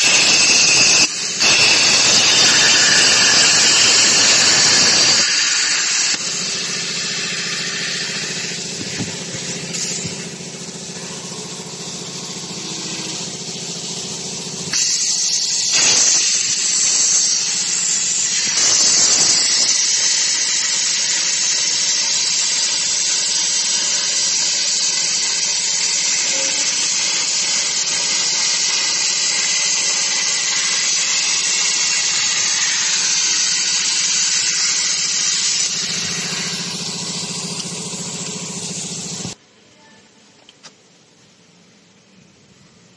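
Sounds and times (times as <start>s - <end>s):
plasma torch hissing: 0.0s - 39.4s.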